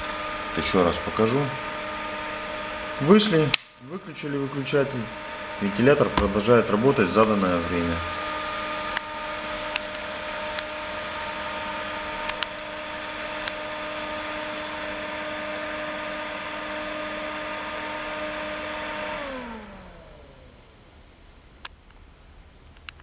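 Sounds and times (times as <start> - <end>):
fan motor winding down: 0.0 - 21.5
exhaust fan humming: 0.0 - 23.0.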